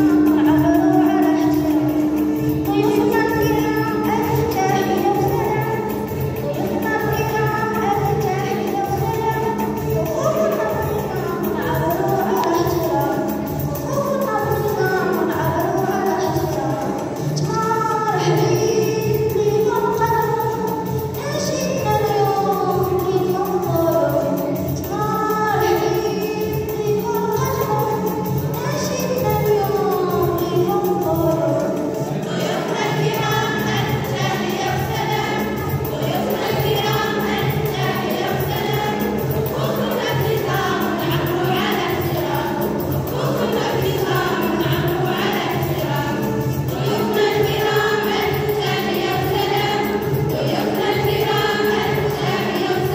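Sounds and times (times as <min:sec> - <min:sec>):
group of voices singing: 0:00.0 - 0:52.9
musical accompaniment: 0:00.0 - 0:52.9.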